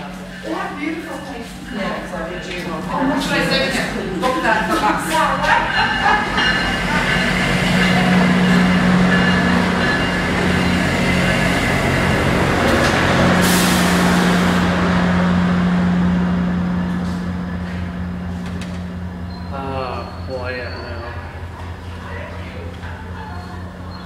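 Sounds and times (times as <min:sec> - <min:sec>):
locomotive engine drone: 0:00.0 - 0:24.0
train rumble: 0:00.0 - 0:24.0.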